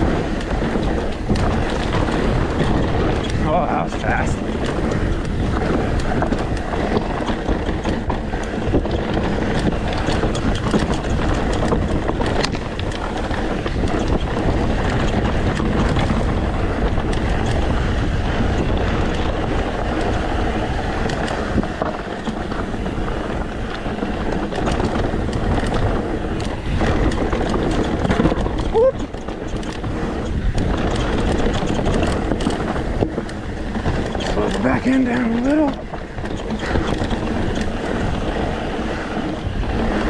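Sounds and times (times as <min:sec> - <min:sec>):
bike rattling: 0:00.0 - 0:40.0
bike tyres rolling over dirt: 0:00.0 - 0:40.0
wind on microphone: 0:00.0 - 0:40.0.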